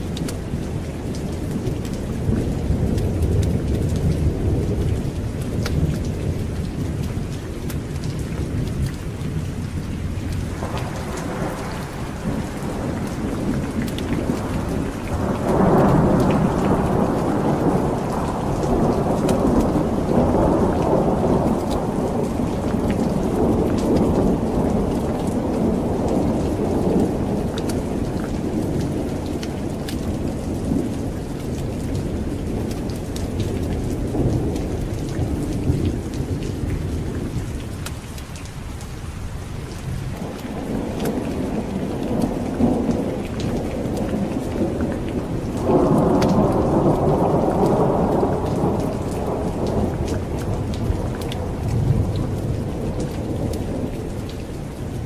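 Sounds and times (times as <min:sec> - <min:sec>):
thunder rumbling: 0:00.0 - 0:37.9, 0:39.7 - 0:55.0
heavy rain: 0:00.0 - 0:55.0.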